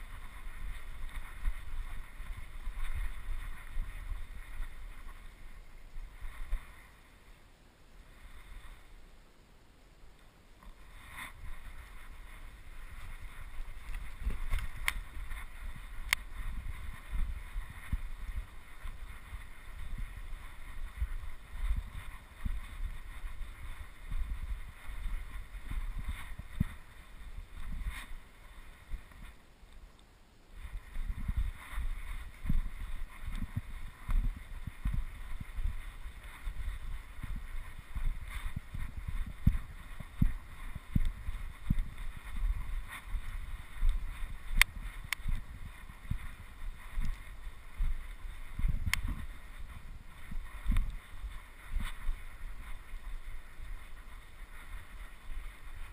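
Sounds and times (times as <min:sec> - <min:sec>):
wind rumbling on microphone: 0:00.0 - 0:55.9.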